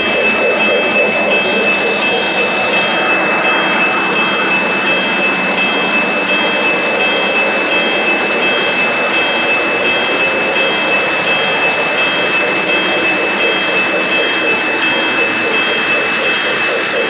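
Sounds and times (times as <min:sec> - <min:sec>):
high whine: 0:00.0 - 0:17.0
model train wheels rumbling: 0:00.0 - 0:17.0
pulsing high tone: 0:00.0 - 0:17.0.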